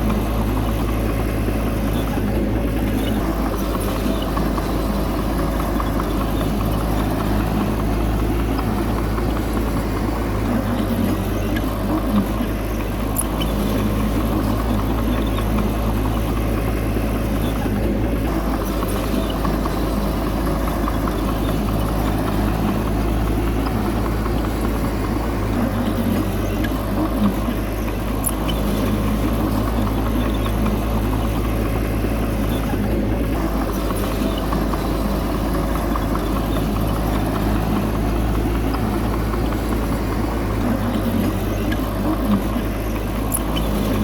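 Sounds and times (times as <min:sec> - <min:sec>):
bulldozer diesel engine running: 0:00.0 - 0:44.0
mechanical clatter: 0:00.0 - 0:44.0.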